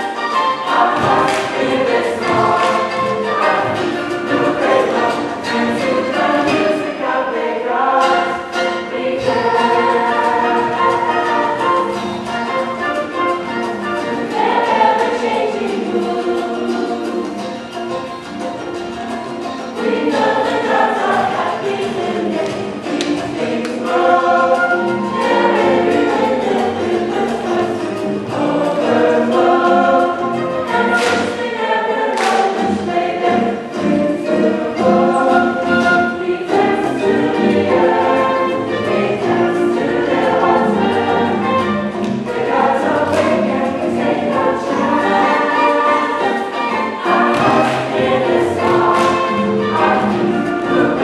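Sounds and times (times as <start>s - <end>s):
choir singing in harmony: 0.0s - 51.0s.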